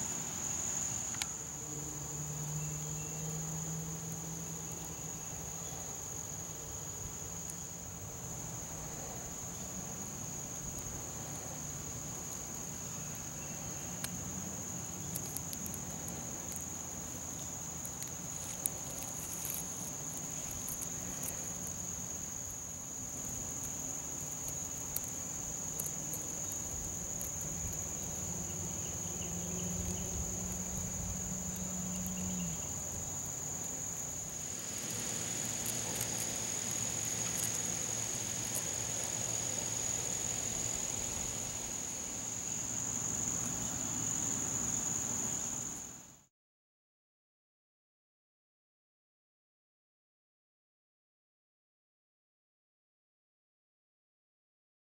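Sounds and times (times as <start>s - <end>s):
insects trilling: 0.0s - 46.2s
hiss-like insect buzz: 0.0s - 46.3s.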